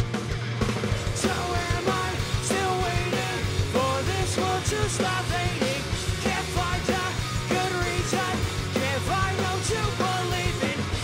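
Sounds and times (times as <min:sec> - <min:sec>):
live pop-punk band: 0:00.0 - 0:11.0.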